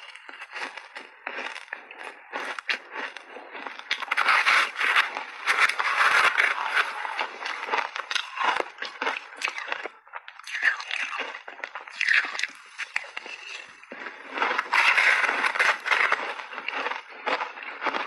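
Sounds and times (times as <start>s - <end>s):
crunching and chewing ice: 0.0s - 18.0s.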